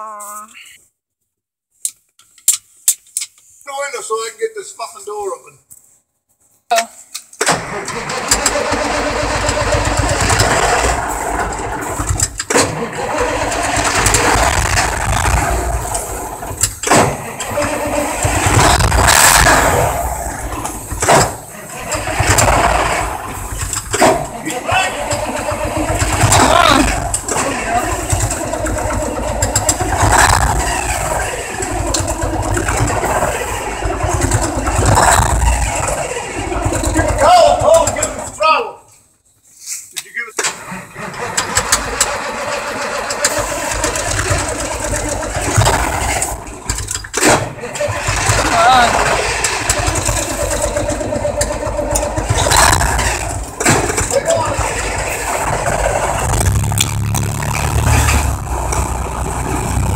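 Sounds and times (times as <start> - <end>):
truck engine cranking on starter: 7.4 - 38.5, 40.4 - 59.9.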